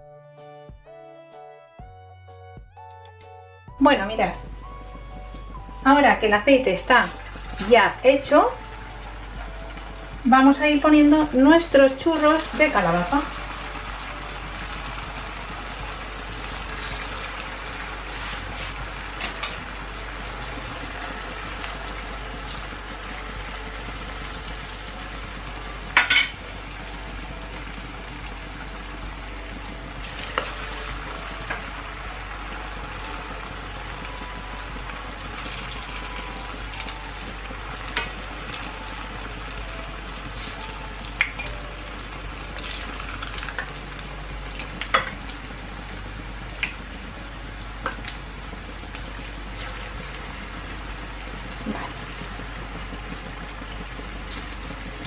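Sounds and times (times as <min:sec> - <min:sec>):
oil sizzling and bubbling: 0:04.4 - 0:55.0.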